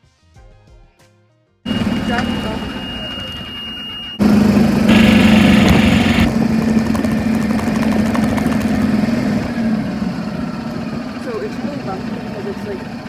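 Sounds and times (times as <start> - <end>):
golf cart engine drone: 1.7 - 13.0.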